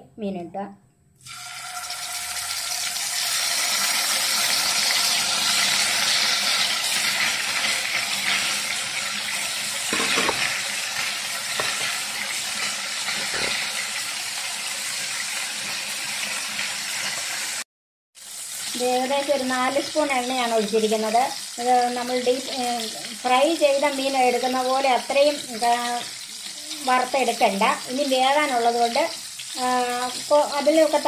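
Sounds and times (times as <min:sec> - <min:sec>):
fish sizzling in oil: 0:01.2 - 0:17.6, 0:18.2 - 0:31.0.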